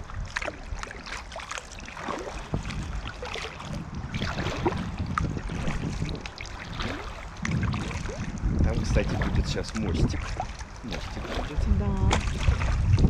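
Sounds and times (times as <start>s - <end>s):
river water rushing and splashing: 0.0s - 13.0s
wind rumbling on microphone: 0.0s - 13.0s.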